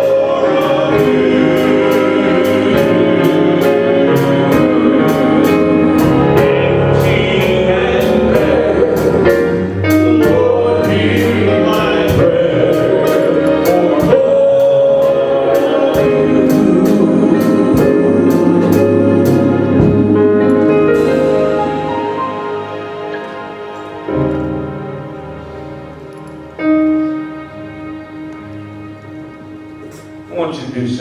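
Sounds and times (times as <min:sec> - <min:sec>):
voices singing gospel music: 0:00.0 - 0:31.0.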